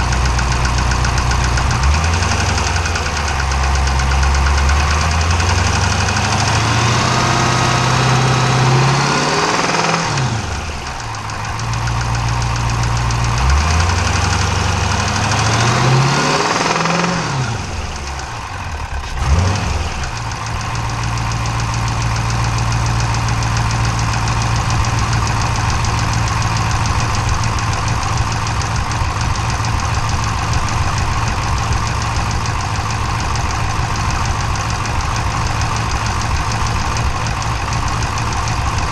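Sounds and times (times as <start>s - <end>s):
engine knock: 0.0s - 38.9s
engine revving and idling: 0.0s - 38.9s.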